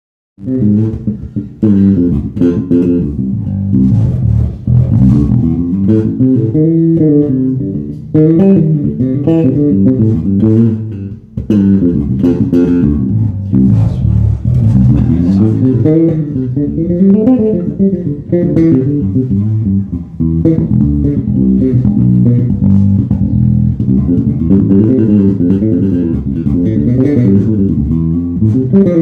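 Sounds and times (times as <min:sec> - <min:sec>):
electric bass plucked: 0:00.4 - 0:29.0.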